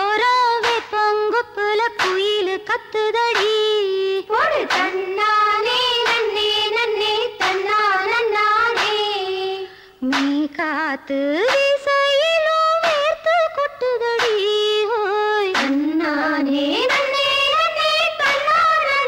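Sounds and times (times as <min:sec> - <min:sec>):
woman singing folk song: 0:00.0 - 0:19.0.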